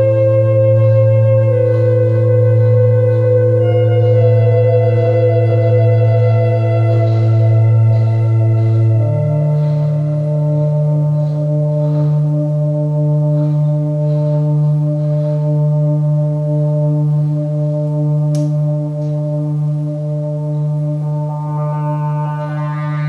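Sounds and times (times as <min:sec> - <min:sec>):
synthesizer ambient pad chord: 0:00.0 - 0:23.0.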